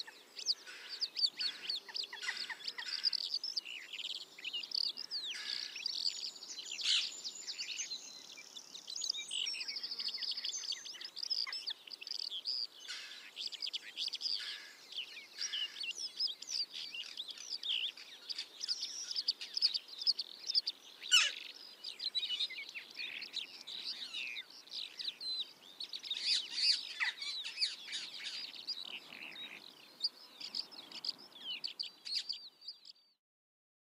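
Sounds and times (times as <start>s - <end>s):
small birds chirping: 0.0s - 33.2s.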